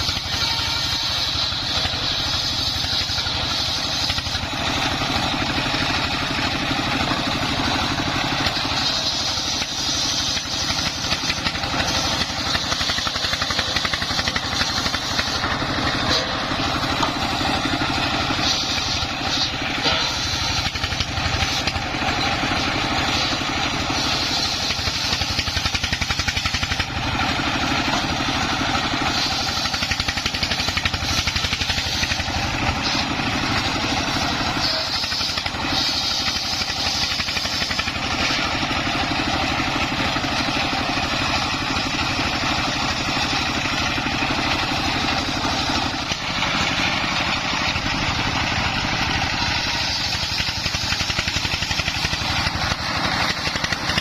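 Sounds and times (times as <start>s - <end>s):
circular saw blade hiss: 0.0s - 54.0s
diesel engine running: 0.0s - 54.0s.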